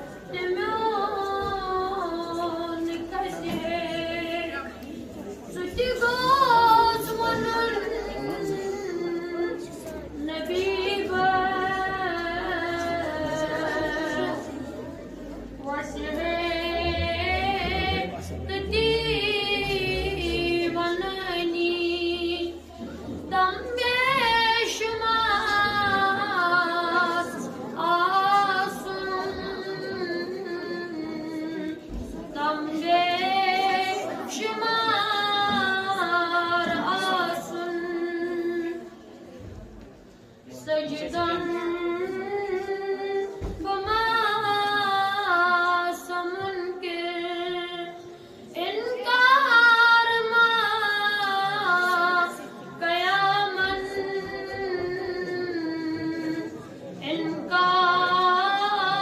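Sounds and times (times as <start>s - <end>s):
boy singing unaccompanied: 0.3s - 4.8s, 5.5s - 14.8s, 15.6s - 39.0s, 40.6s - 59.0s.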